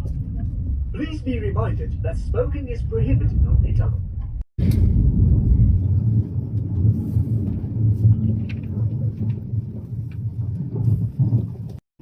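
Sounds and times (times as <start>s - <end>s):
train interior rumble: 0.0s - 11.8s.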